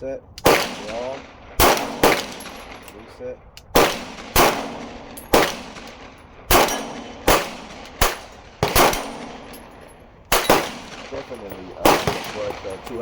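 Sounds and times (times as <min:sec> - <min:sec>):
pistol shots: 0:00.4 - 0:03.0, 0:03.7 - 0:13.0.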